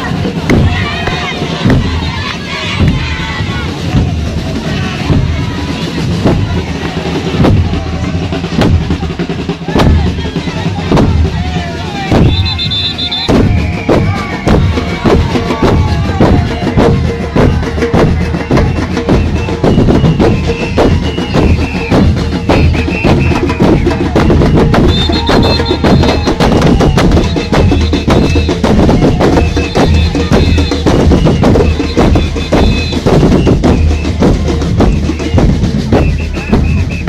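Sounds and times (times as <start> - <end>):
bass drums with cymbal beating: 0.0 - 37.0.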